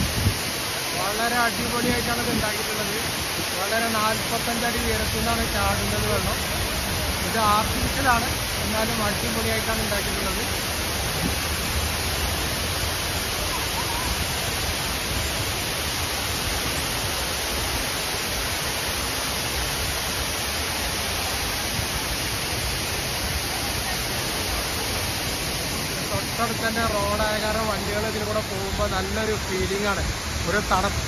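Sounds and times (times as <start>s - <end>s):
waterfall rushing into a pool: 0.0s - 31.0s.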